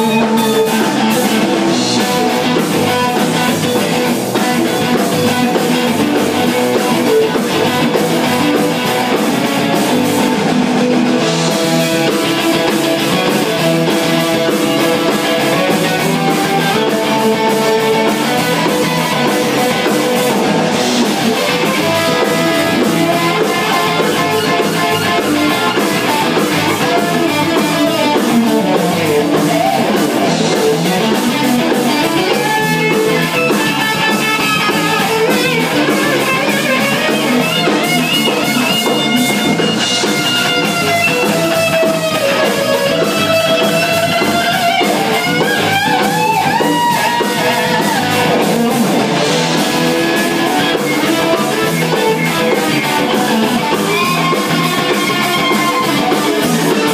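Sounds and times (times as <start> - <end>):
band playing: 0.0 - 56.9
lead guitar bending notes: 0.0 - 56.9.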